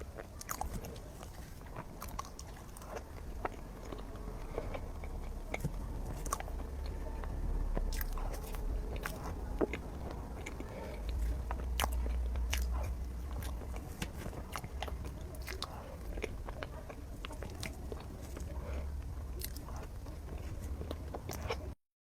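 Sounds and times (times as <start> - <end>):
chewing with wet mouth clicks: 0.0 - 21.8
low steady hum: 0.0 - 21.8.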